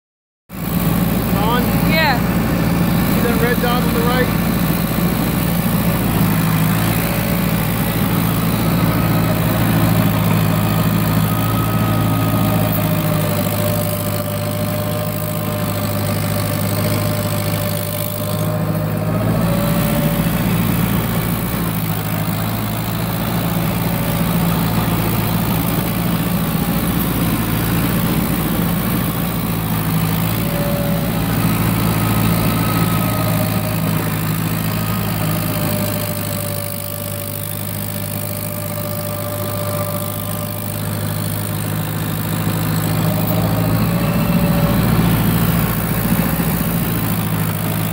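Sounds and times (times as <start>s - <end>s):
snow blower cutting through snow: 0.5s - 47.9s
tractor engine under heavy load: 0.5s - 47.9s.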